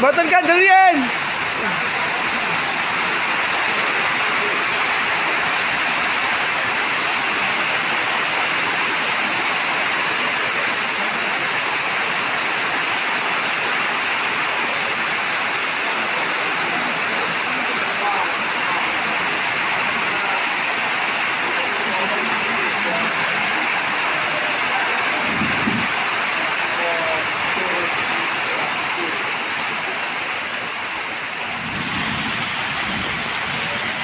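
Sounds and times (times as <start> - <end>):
torrential rain pouring: 0.0 - 34.0.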